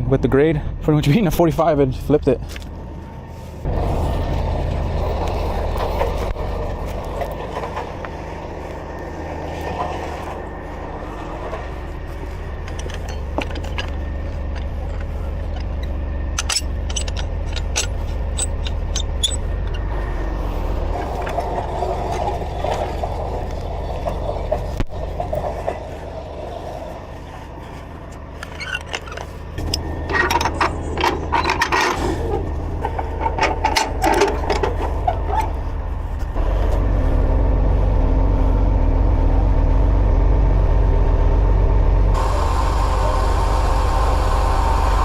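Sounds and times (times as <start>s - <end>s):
truck engine running: 2.7s - 45.0s.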